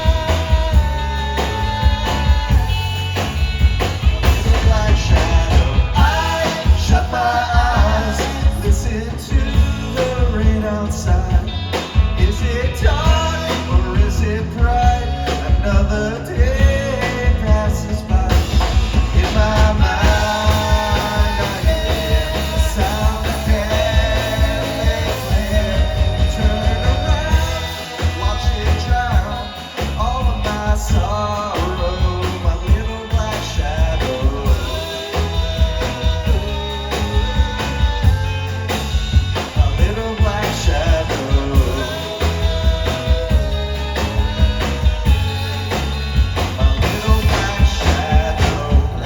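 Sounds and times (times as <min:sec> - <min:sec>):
bass: 0:00.0 - 0:49.0
drums: 0:00.0 - 0:49.0
electric guitar: 0:00.0 - 0:49.0
person singing lead vocal: 0:00.0 - 0:49.0.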